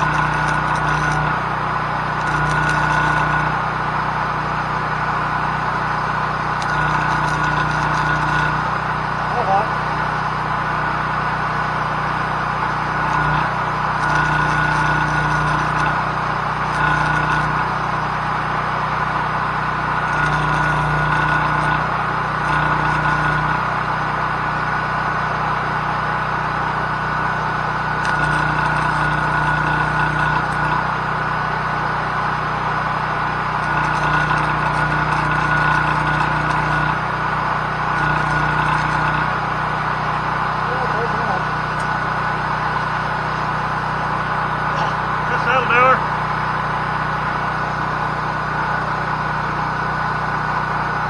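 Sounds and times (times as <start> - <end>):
arc welder buzzing and crackling: 0.0 - 51.0
generator engine running: 0.0 - 51.0.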